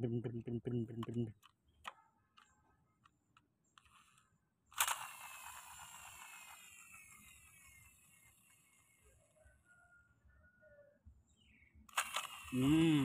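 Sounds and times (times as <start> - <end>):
plastic toy vehicles clicking: 0.1 - 9.6, 11.8 - 13.0.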